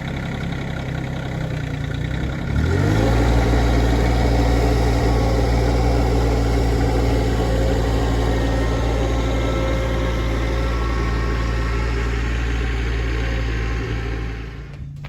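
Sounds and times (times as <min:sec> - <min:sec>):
small engine running steadily: 0:00.0 - 0:15.0.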